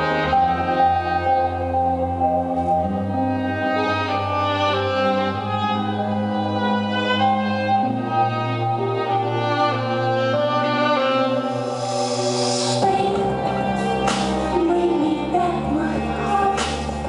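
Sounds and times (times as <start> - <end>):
bowed violin melody: 0.0 - 17.0
low sustained backing notes: 0.0 - 17.0.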